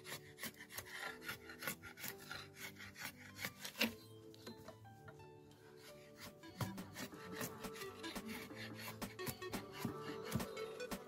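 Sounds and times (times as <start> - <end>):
machete scraping wooden pole: 0.0 - 4.5, 5.7 - 11.0
soft music: 0.0 - 11.0.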